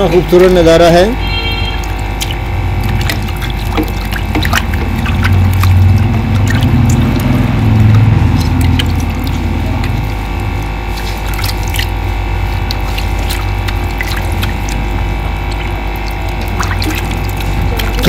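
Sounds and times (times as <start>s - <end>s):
steady hum: 0.0s - 18.0s
water splashing in a pot: 1.2s - 18.0s
low rumble: 1.8s - 18.0s.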